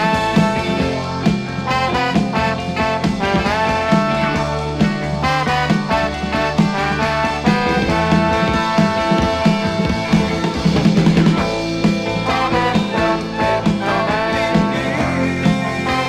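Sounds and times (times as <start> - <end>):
heavy rock music with horns: 0.0 - 16.0.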